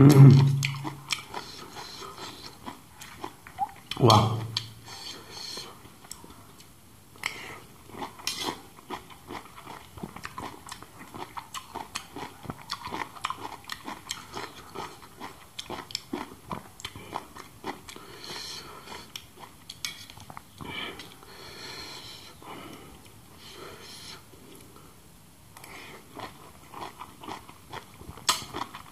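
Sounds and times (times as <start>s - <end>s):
wet chewing mouth sounds: 0.1s - 21.2s, 25.6s - 28.9s.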